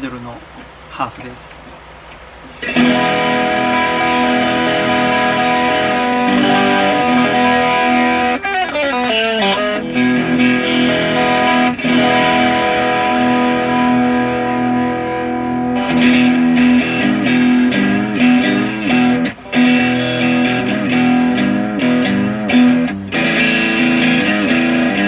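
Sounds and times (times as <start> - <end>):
overdriven electric guitar: 2.4 - 25.0.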